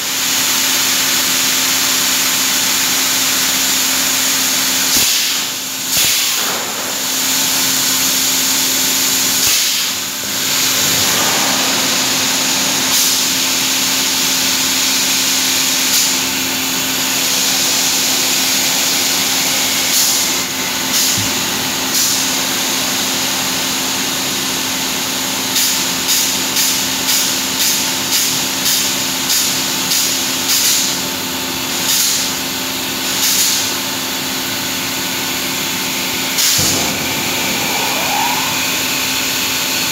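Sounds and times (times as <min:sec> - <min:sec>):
factory machinery humming: 0:00.0 - 0:30.4, 0:31.5 - 0:39.9.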